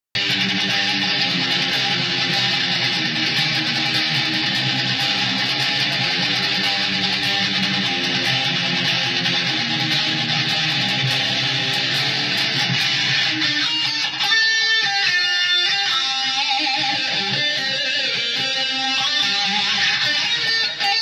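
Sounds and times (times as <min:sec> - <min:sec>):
distorted electric guitar metal riff: 0:00.2 - 0:21.0.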